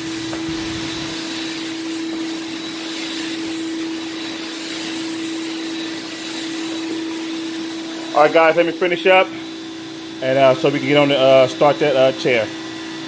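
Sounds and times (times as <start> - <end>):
carpet extraction vacuum hissing: 0.0 - 13.0.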